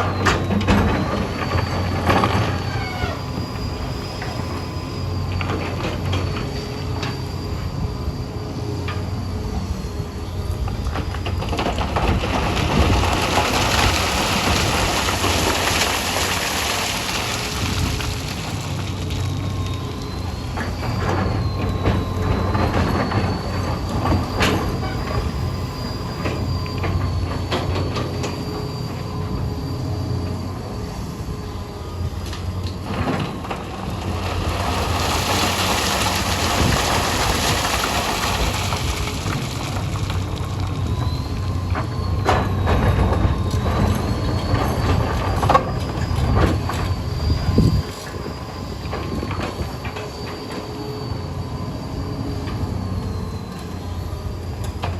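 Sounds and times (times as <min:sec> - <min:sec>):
diesel engine running: 0:00.0 - 0:54.9
high-pitched whine: 0:00.0 - 0:54.9.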